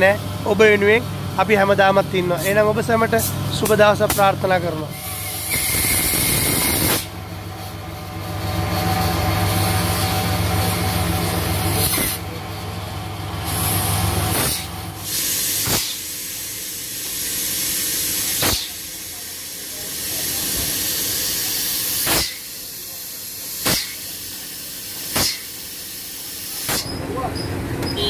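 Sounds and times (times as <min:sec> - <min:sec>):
low mechanical hum: 0:00.0 - 0:28.0
hissing from engine bay: 0:02.0 - 0:27.3.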